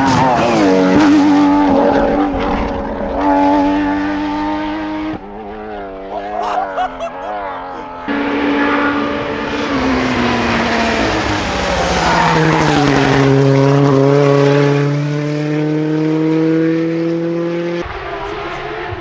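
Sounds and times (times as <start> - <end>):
rally car engine passing: 0.0 - 6.2, 7.4 - 19.0.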